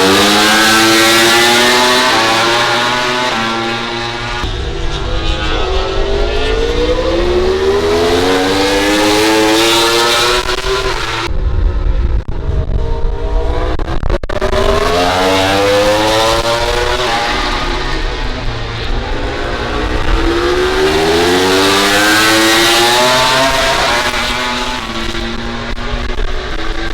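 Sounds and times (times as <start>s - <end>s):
racing motorcycle engine revving: 0.0s - 26.9s.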